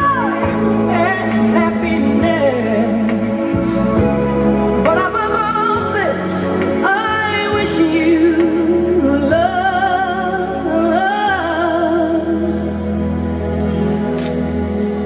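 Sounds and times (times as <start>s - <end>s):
woman singing with vibrato: 0.0s - 13.2s
soft sustained accompaniment: 0.0s - 15.0s.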